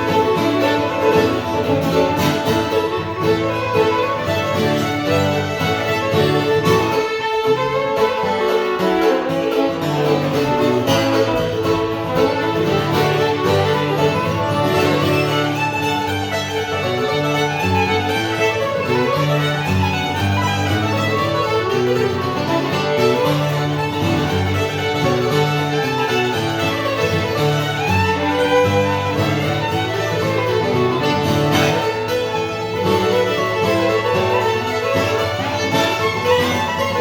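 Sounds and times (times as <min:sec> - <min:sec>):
fiddle melody: 0:00.0 - 0:37.0
guitar accompaniment: 0:00.0 - 0:37.0.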